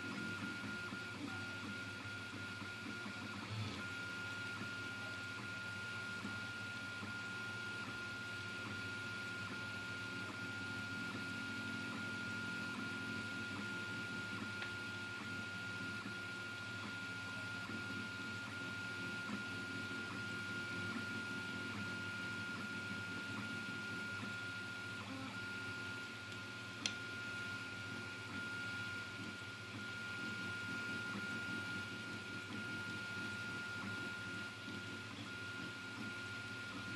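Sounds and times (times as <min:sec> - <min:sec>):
printer high whine: 0:00.0 - 0:36.9.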